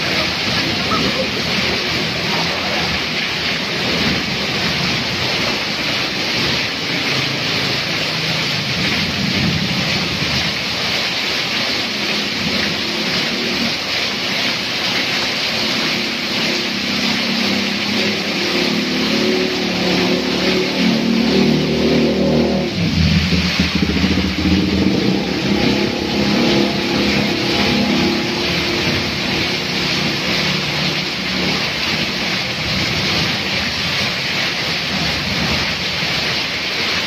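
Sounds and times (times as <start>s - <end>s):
engine hum: 0.0s - 37.0s
heavy rain on a road: 0.0s - 37.0s
truck splashing through water: 0.0s - 37.0s
water pouring off an awning: 0.0s - 37.0s.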